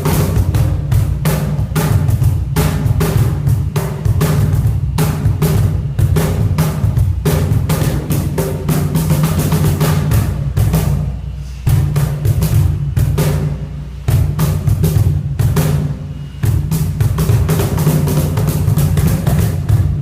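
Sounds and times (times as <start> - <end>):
cajon fast groove: 0.0 - 20.0.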